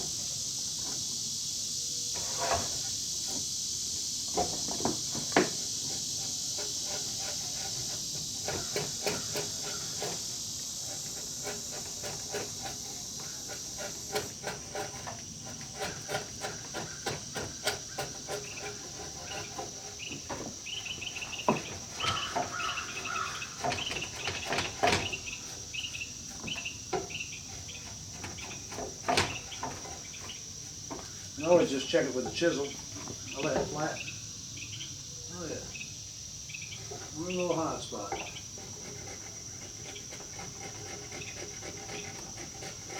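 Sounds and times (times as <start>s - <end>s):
high insect buzzing: 0.0s - 42.9s
chisel tapping and scraping wood: 4.3s - 25.6s, 26.3s - 33.8s, 36.8s - 42.9s.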